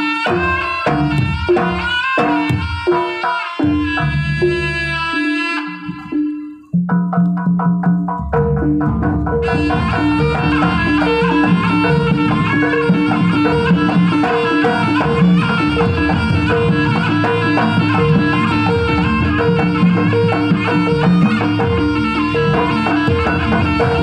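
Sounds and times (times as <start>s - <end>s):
reedy wind instrument melody: 0.0s - 6.8s, 9.2s - 24.0s.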